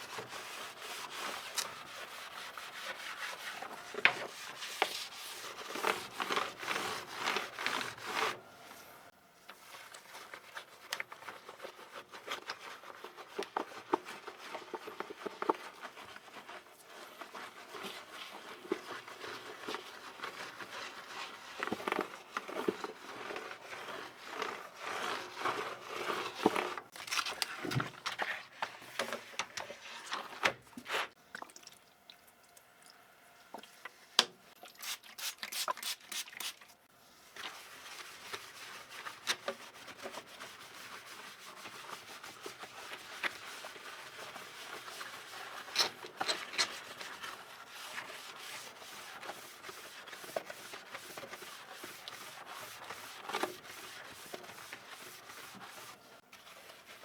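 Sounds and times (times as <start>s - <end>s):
rubbing and scraping keyboard: 0.0s - 8.4s, 9.6s - 31.2s, 37.4s - 57.0s.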